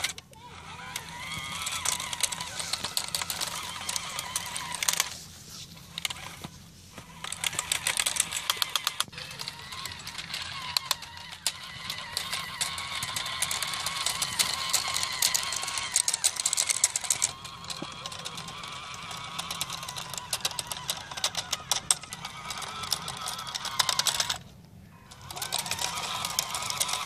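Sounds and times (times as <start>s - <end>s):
plastic gears clicking: 0.0s - 5.2s, 5.9s - 27.0s
electric motor whine: 0.0s - 27.0s.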